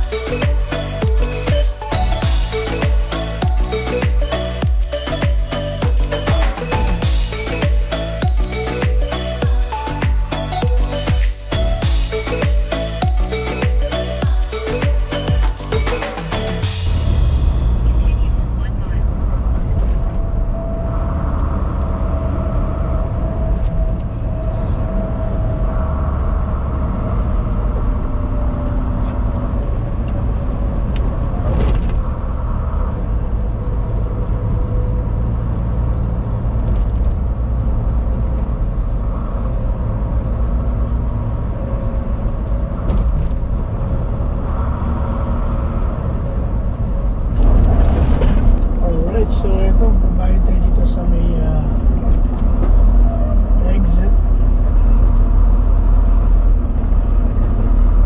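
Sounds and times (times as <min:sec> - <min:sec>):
truck engine drone and road rumble: 0:00.0 - 0:58.0.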